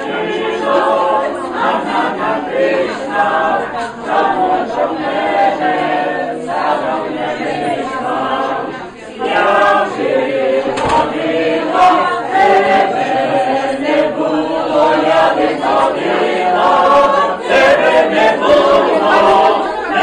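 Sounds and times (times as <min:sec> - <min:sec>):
group singing unaccompanied: 0:00.0 - 0:20.0.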